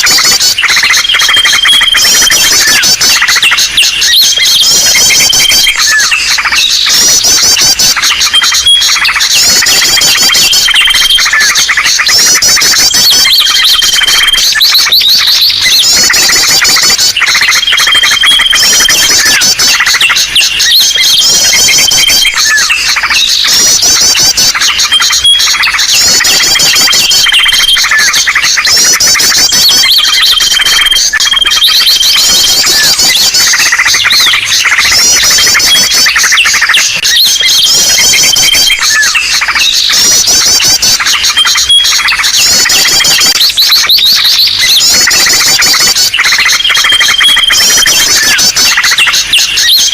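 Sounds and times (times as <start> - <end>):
chorus of small birds chattering: 0.0 - 49.9.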